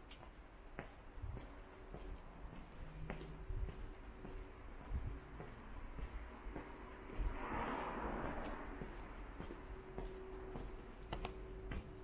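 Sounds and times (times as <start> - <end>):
soft rushing noise: 0.9 - 12.0.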